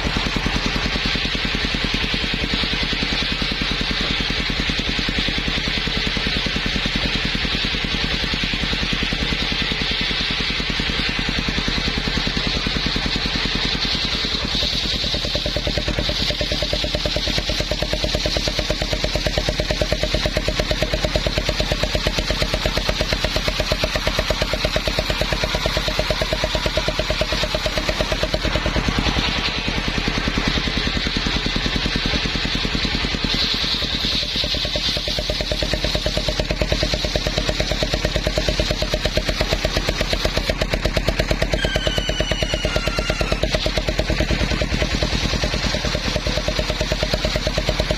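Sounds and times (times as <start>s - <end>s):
circular saw engine running: 0.0s - 47.9s.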